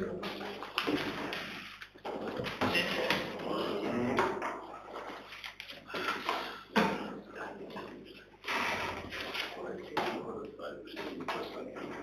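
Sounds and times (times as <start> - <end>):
indistinct talk: 0.0 - 12.0.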